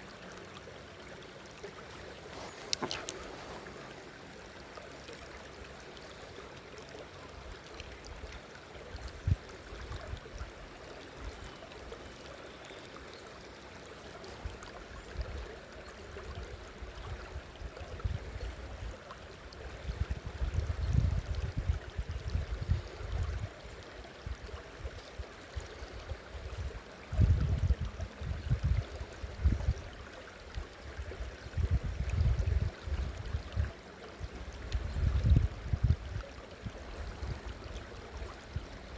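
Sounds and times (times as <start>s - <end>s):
waterfall and stream running: 0.0s - 38.9s.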